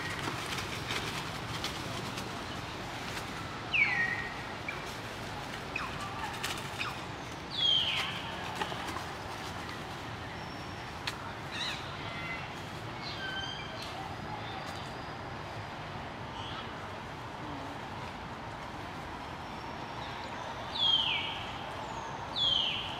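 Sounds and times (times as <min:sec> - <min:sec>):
outdoor background hiss: 0:00.0 - 0:22.9.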